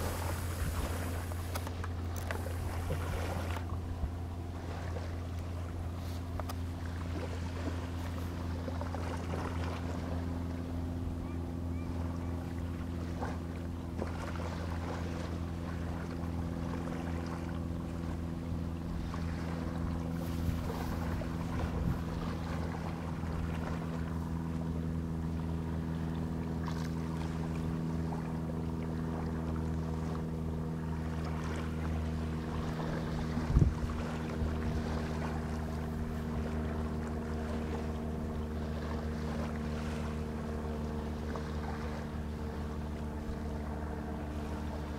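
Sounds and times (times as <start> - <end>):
boat engine running: 0.0 - 44.9
water and wind noise: 0.0 - 44.9.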